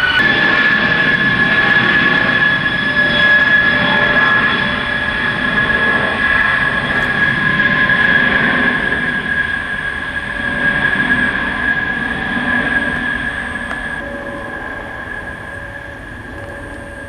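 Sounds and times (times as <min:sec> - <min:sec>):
jet aircraft flying overhead: 0:00.0 - 0:17.0.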